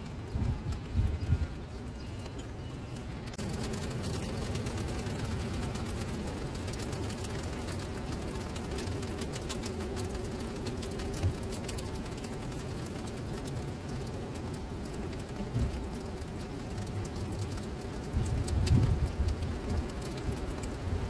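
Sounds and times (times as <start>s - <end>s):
rain falling into water: 0.0s - 21.0s.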